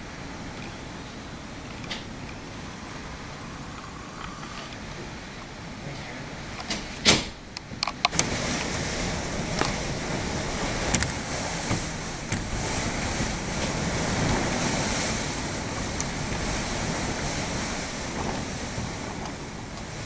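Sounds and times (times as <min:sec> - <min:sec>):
heavy rain: 0:00.0 - 0:20.0
hurricane wind: 0:00.0 - 0:20.0.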